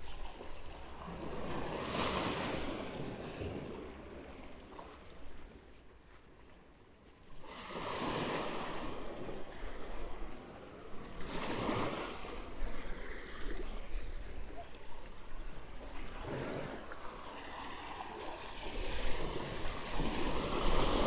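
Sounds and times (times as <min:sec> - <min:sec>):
sea waves breaking on shore: 0:00.0 - 0:06.4, 0:07.0 - 0:21.0.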